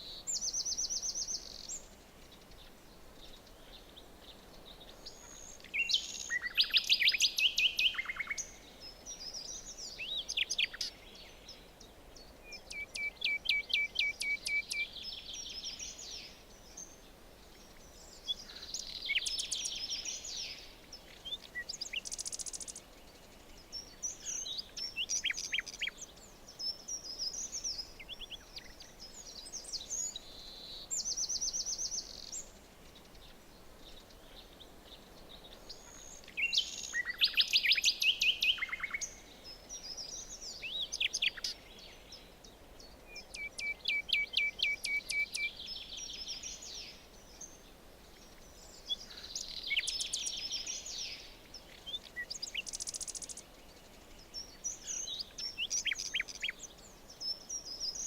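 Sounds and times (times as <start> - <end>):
faint steady hiss: 0.0 - 58.0
songbirds singing: 0.0 - 58.0.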